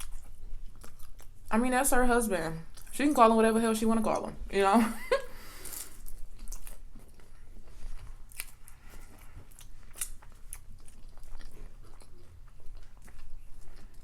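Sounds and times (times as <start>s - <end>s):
chewing crunchy food: 0.0s - 3.3s, 5.5s - 14.0s.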